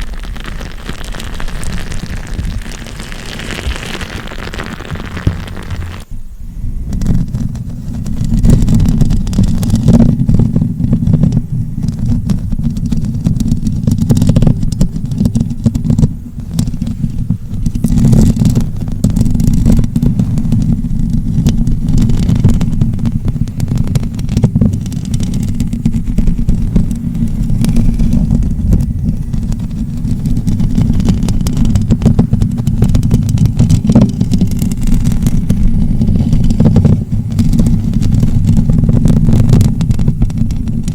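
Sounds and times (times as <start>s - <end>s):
rubbing on microphone: 0.0s - 40.9s.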